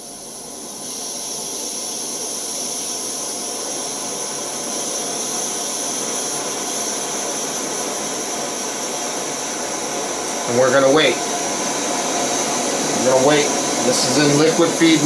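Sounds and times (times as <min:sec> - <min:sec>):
stove burner hissing: 0:00.0 - 0:15.0.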